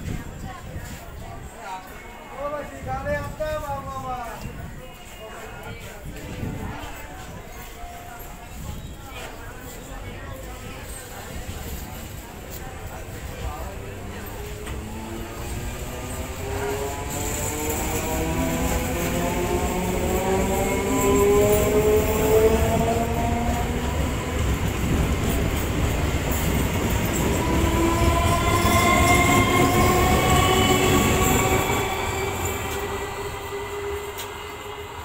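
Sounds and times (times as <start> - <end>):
wheels rumbling on rails: 5.9 - 35.0.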